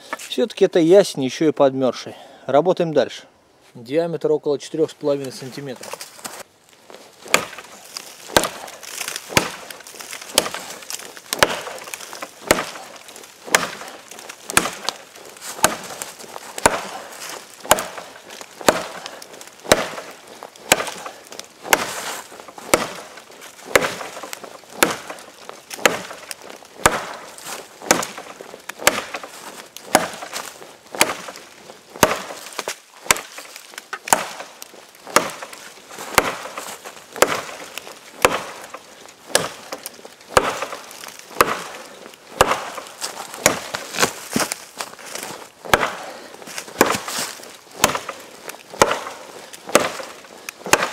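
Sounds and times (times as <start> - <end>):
blade chopping into wood: 7.2 - 50.9.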